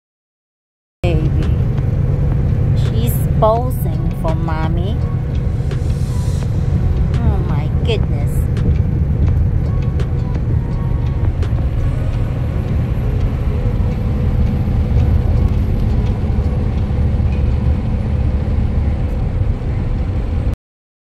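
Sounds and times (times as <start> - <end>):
truck engine drone: 1.0 - 20.6
tyre and road noise: 1.0 - 20.6.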